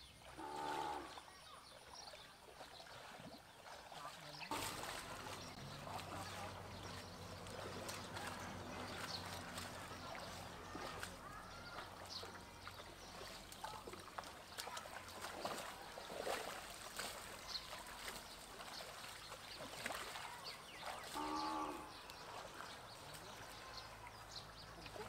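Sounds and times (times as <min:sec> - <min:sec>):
people wading through muddy water: 0:00.0 - 0:25.0.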